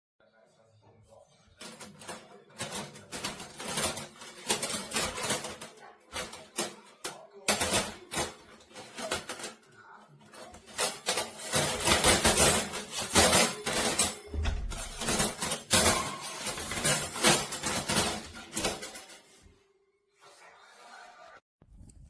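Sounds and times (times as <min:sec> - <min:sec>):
metal panels clattering and clinking: 0:01.6 - 0:19.5.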